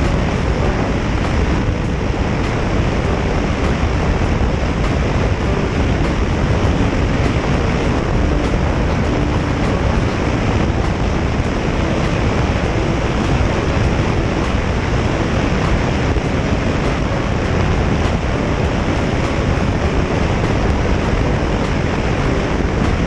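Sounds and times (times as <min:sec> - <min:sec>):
motorcycle engine: 0:00.0 - 0:23.0
road noise: 0:00.0 - 0:23.0
wind rushing over microphone: 0:00.0 - 0:23.0.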